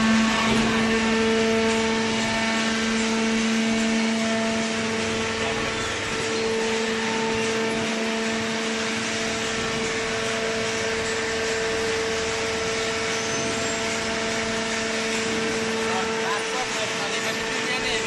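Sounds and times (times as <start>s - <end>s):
paper baler machine hum: 0.0s - 18.0s.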